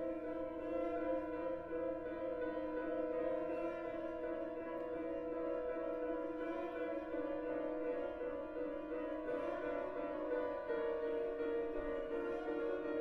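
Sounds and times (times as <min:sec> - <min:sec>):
piano: 0:00.0 - 0:13.0.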